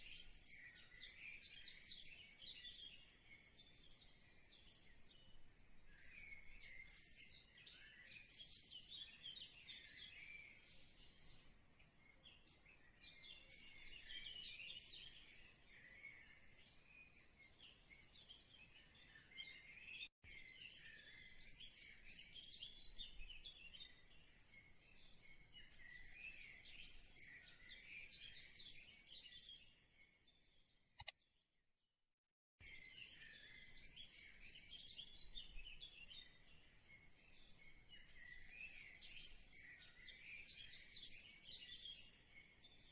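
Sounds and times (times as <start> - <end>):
faint birdsong: 0.0 - 31.4, 32.6 - 42.9.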